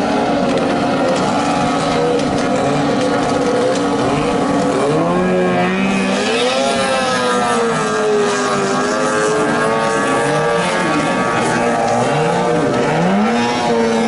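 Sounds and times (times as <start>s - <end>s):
outboard motor whining: 0.0s - 14.0s.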